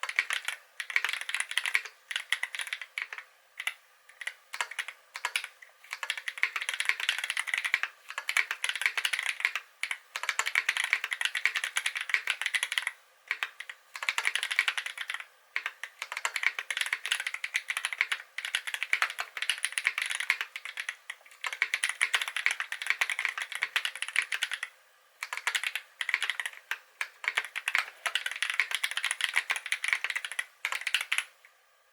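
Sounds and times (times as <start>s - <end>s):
fast typing on mechanical keyboard: 0.0s - 31.3s.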